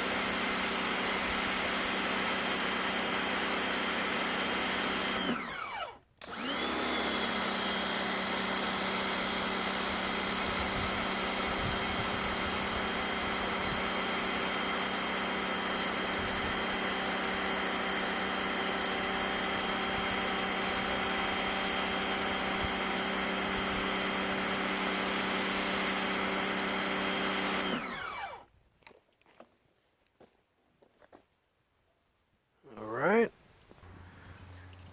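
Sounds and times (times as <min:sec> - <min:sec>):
pressure washer motor running: 0:00.0 - 0:28.4.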